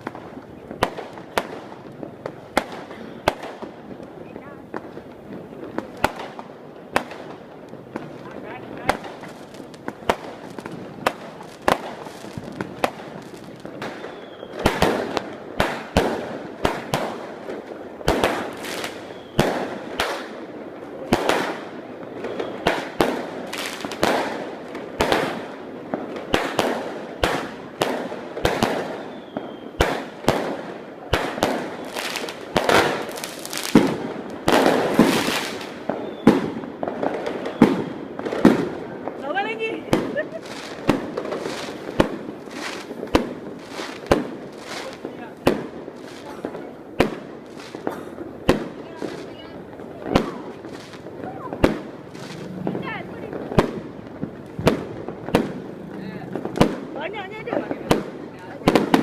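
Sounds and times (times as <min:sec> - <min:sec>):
firework bangs and crackling: 0:00.0 - 0:59.0.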